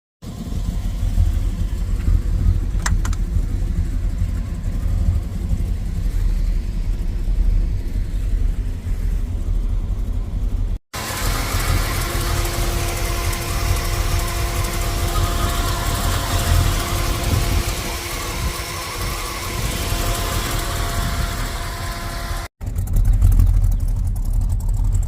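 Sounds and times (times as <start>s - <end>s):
car engine idling: 0.2s - 25.0s.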